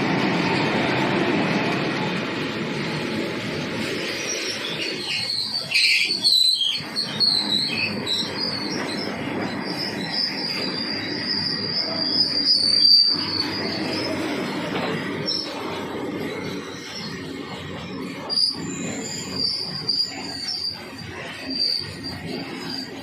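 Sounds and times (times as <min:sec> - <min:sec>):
train wheels rumbling on rails: 0:00.0 - 0:23.0
high-pitched wheel squeal: 0:03.8 - 0:23.0.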